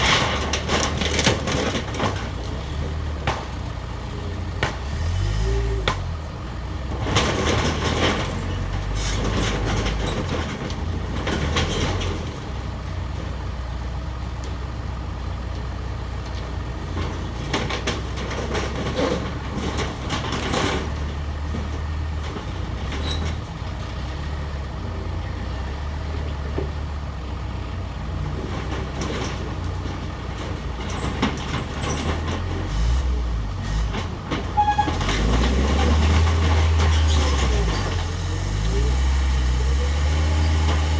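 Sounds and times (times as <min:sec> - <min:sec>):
cracks and clatter of breaking shed: 0:00.0 - 0:13.5, 0:15.6 - 0:24.2, 0:28.2 - 0:40.9
diesel engine running under load: 0:00.0 - 0:40.9.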